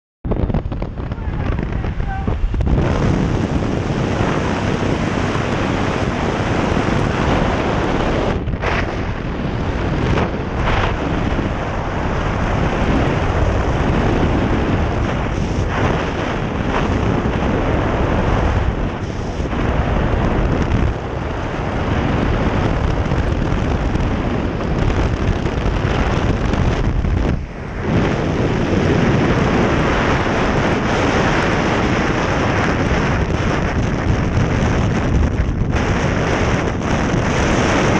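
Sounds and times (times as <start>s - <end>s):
wind rushing over microphone: 0.2s - 37.9s.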